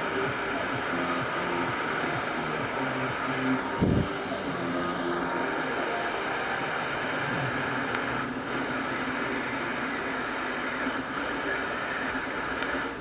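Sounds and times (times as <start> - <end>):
hot air blowing: 0.0 - 13.0.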